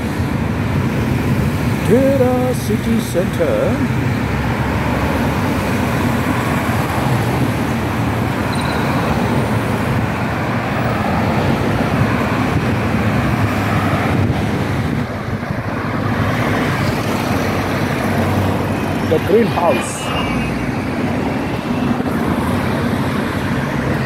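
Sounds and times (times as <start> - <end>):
cars driving past: 3.0 - 24.0.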